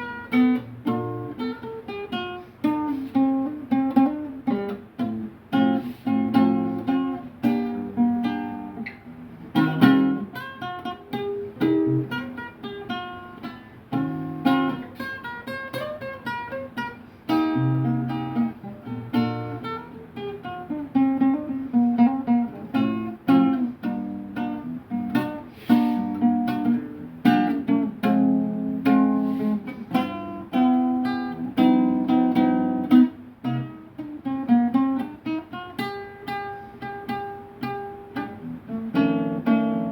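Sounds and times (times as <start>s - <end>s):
acoustic guitar plucked and strummed: 0.0s - 39.9s.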